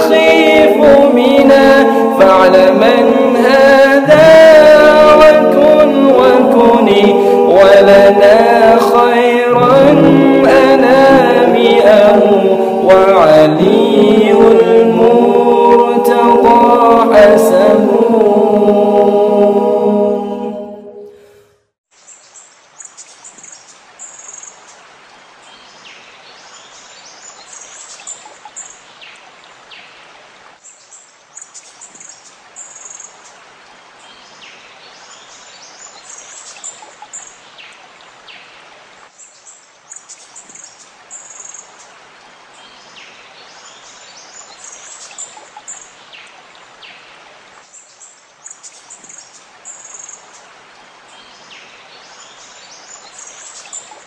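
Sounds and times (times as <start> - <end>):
flowing water rushing: 0.0 - 17.9, 22.5 - 54.0.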